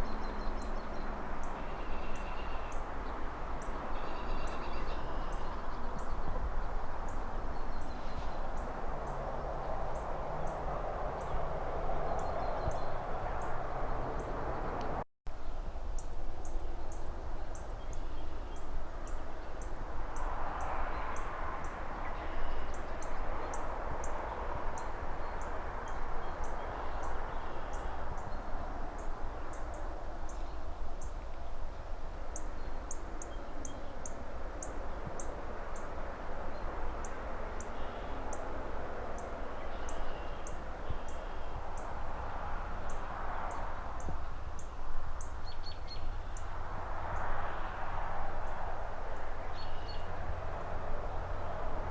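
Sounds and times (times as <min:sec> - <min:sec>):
traffic rushing: 0:00.0 - 0:15.0, 0:16.5 - 0:51.9
rustling trees: 0:00.0 - 0:51.9.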